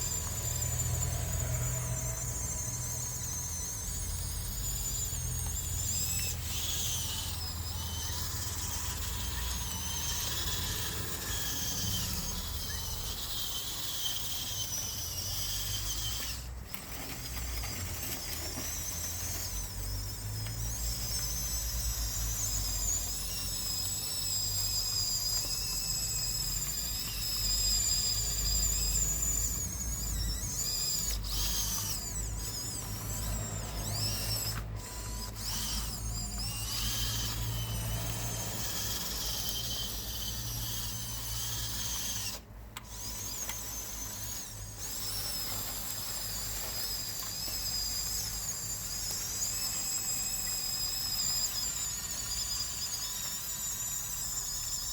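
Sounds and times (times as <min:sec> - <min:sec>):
toy electric motors whining: 0:00.0 - 0:54.9.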